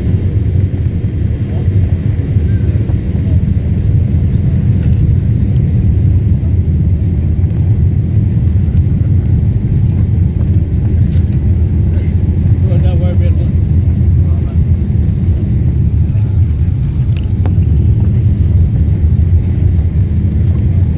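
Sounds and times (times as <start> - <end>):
airplane engines rumbling: 0.0 - 20.9.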